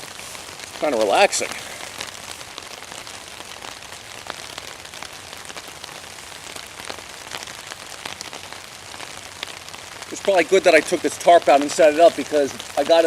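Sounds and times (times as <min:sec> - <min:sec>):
light rain on a tarp: 0:00.0 - 0:13.0
raindrop ticks: 0:00.0 - 0:13.0.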